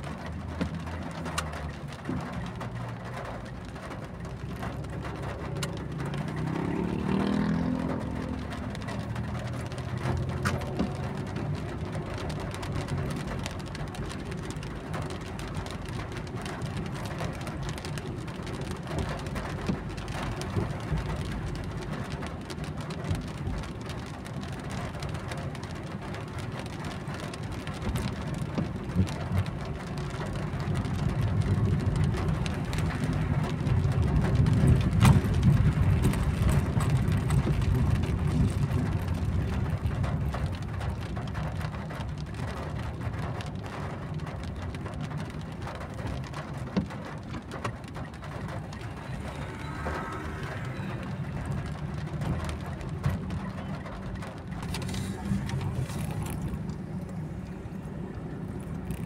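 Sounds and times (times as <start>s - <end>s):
engine and wet tyres rumbling: 0.0s - 59.0s
raindrops ticking on car roof: 0.0s - 59.0s.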